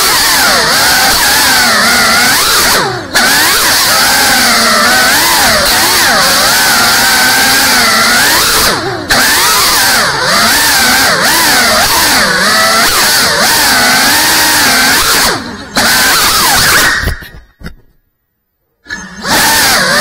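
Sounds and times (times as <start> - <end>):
drone motors whining: 0.0 - 17.8, 18.8 - 20.0.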